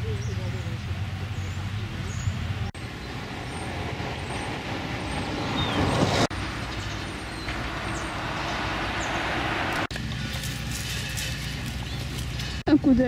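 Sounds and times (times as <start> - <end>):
street traffic rumble: 0.0 - 13.0
passing vehicle tyre noise: 0.5 - 12.7.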